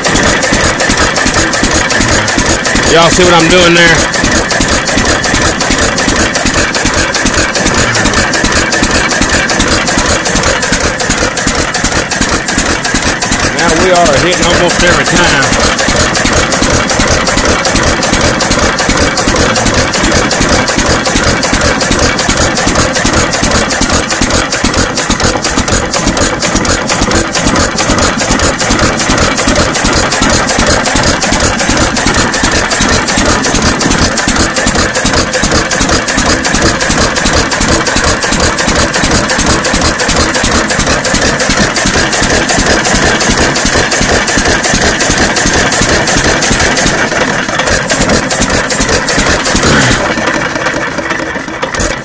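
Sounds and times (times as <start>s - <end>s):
single-cylinder engine running: 0.0s - 52.0s.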